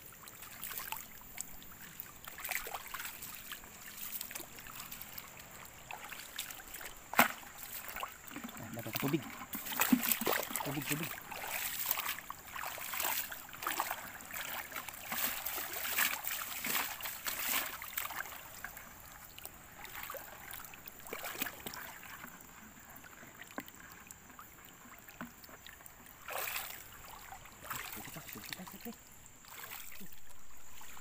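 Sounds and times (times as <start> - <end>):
shallow water splashing: 0.0 - 31.0.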